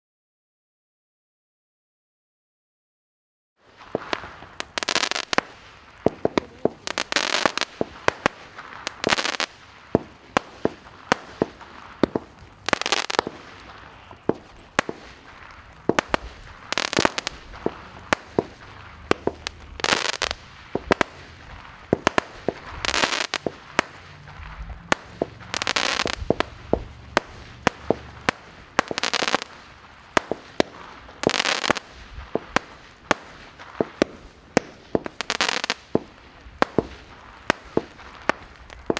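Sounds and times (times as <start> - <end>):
firework crackling: 3.6 - 38.9
firework cracks and pops: 3.6 - 38.9.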